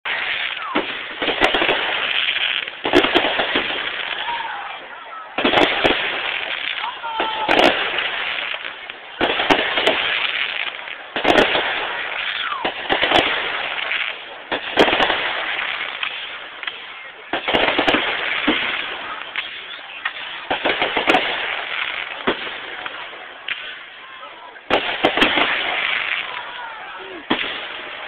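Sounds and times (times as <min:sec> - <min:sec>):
fizzing crackle of fireworks: 0:00.0 - 0:28.0
fireworks bangs: 0:00.1 - 0:28.0.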